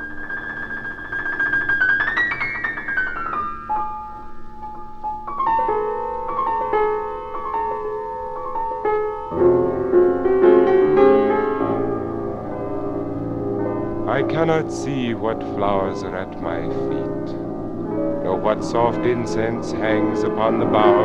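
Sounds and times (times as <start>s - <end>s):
solo piano playing: 0.0s - 21.0s.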